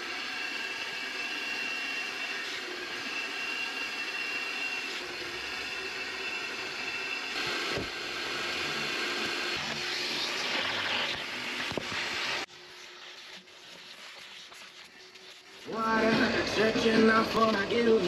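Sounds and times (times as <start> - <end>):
shop vacuum whining: 0.0 - 12.5, 15.6 - 18.0.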